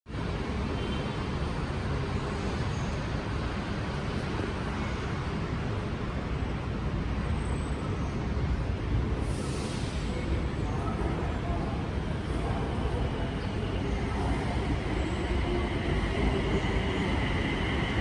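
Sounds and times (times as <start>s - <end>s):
city road traffic rumble: 0.1s - 18.0s.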